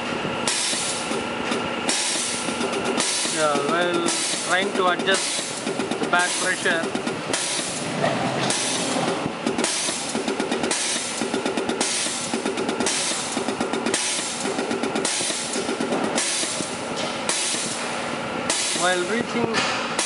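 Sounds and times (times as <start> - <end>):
fuel injector mechanical chatter: 0.0 - 20.0.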